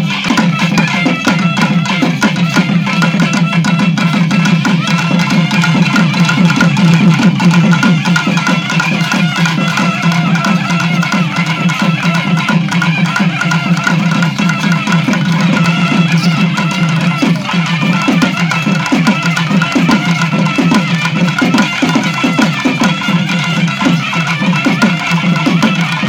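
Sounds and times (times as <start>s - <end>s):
fast dense drumming: 0.0s - 26.0s
reed pipe melody: 0.0s - 26.0s.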